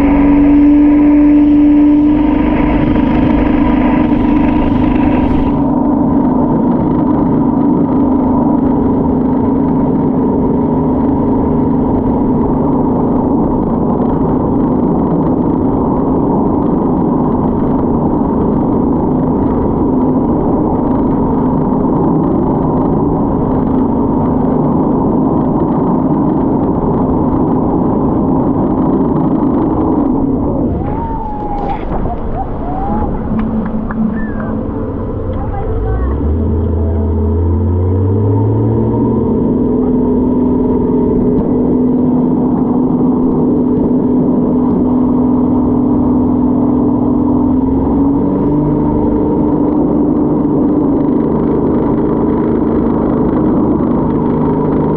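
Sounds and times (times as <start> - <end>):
motorboat engine drone: 0.0 - 54.9.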